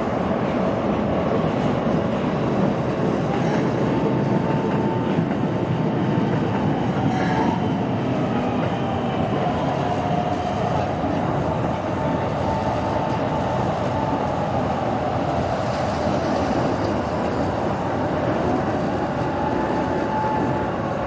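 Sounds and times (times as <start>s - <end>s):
train rail rumble: 0.0s - 21.0s.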